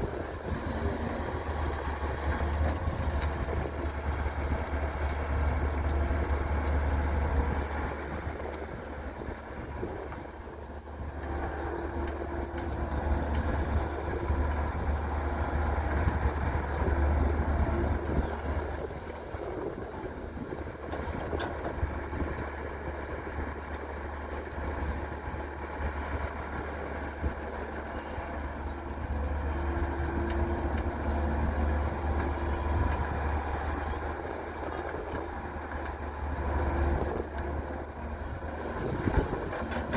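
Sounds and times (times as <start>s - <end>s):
excavator diesel engine rumbling: 0.0s - 39.9s.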